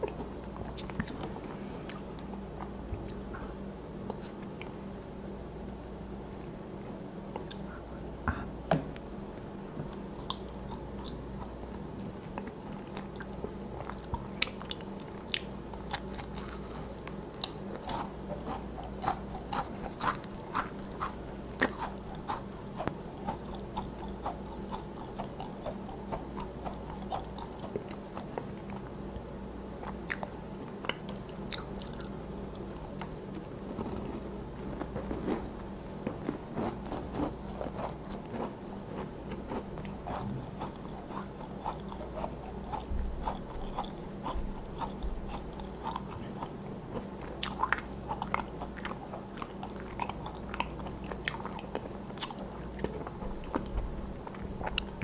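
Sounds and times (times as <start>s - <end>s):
person chewing crunchy food: 0.0s - 3.5s, 9.8s - 28.9s, 29.8s - 55.0s.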